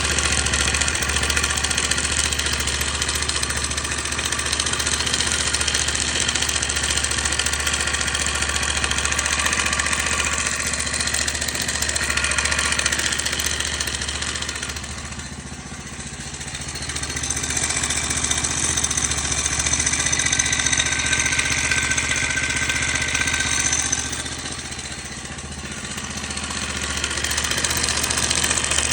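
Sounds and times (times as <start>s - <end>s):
engine knocking and rustling: 0.0s - 28.9s
motorbike engine running: 0.0s - 28.9s.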